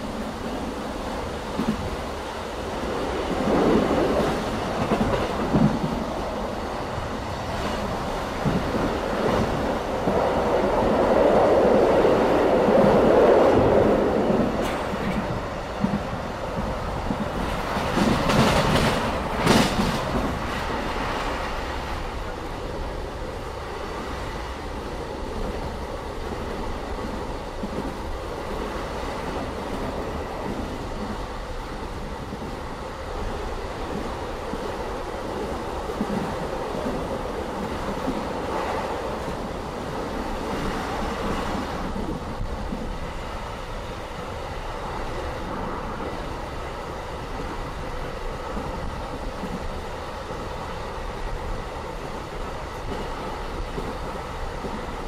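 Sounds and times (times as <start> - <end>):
clickety-clack of rail joints: 0.0 - 55.0
train wheels rumbling on rails: 0.0 - 55.0.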